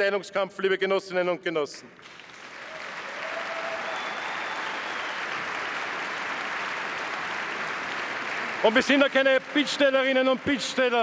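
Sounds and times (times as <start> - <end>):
large crowd applauding: 2.0 - 11.0.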